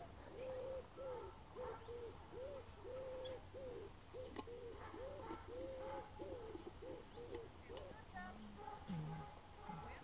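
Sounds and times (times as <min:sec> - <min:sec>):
pigeon cooing: 0:00.2 - 0:10.0.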